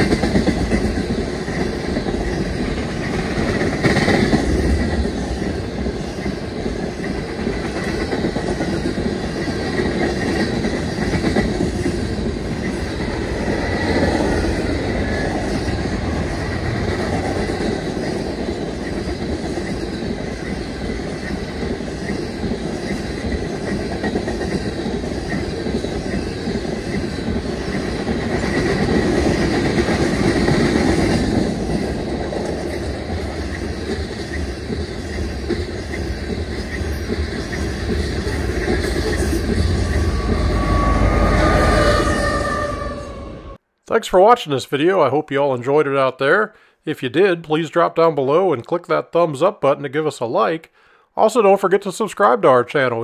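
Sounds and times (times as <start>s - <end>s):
diesel locomotives rumbling: 0.0s - 43.6s
freight train cars rolling: 0.0s - 43.6s.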